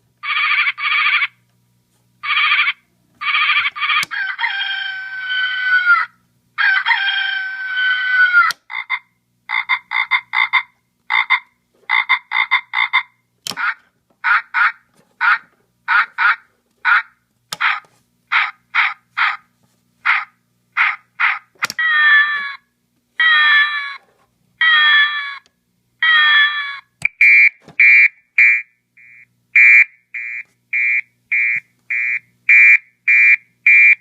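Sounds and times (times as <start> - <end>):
electronic animal calls: 0.2 - 1.4, 2.2 - 24.0, 24.6 - 29.2.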